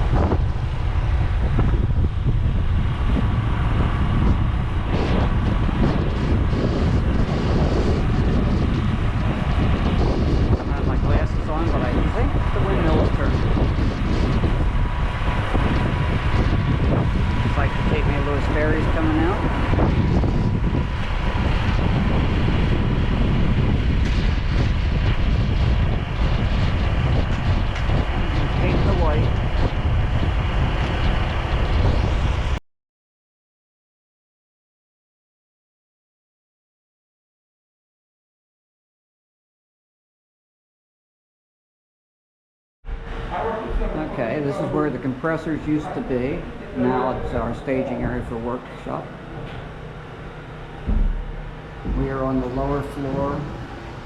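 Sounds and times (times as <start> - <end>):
wind buffeting microphone: 0.0 - 32.6, 42.9 - 54.0.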